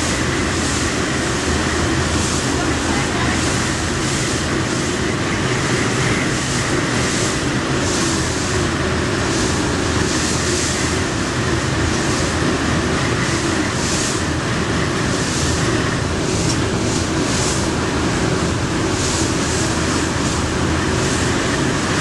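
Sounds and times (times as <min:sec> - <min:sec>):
rushing water: 0:00.0 - 0:22.0
ship engines droning: 0:00.0 - 0:22.0.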